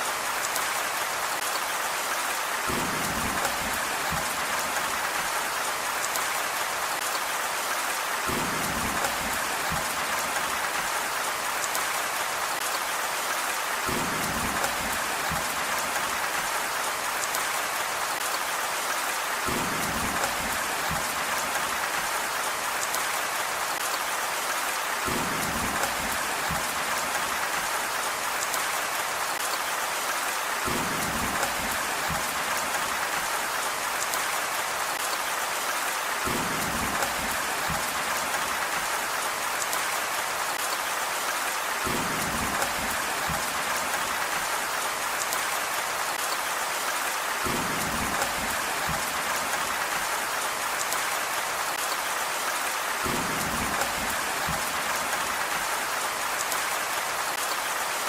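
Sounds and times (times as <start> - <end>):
heavy rain patter bursts: 0.0 - 58.0
steady rain hiss: 0.0 - 58.0.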